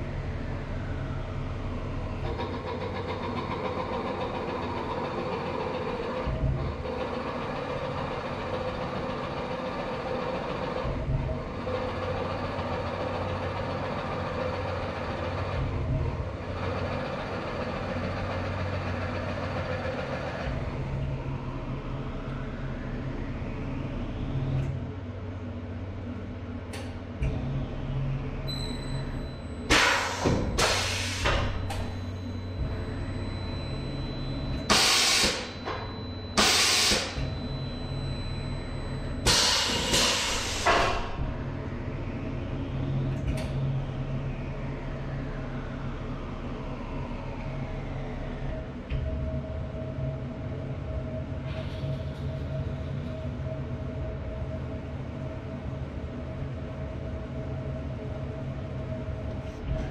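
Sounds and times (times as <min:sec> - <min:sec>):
mill spindle whine: 0:00.0 - 0:59.9.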